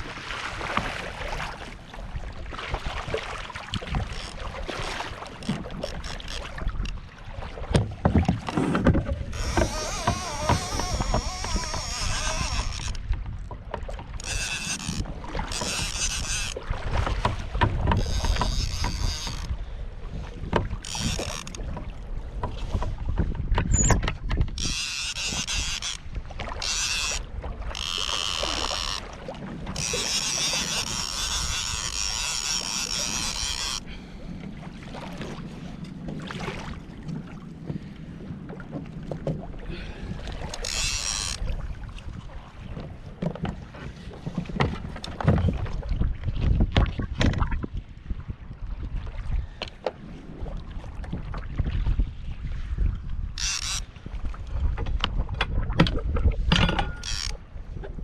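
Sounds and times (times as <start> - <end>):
water sloshing against kayak hull: 0.0 - 58.0
wind rumble on microphone: 0.0 - 58.0.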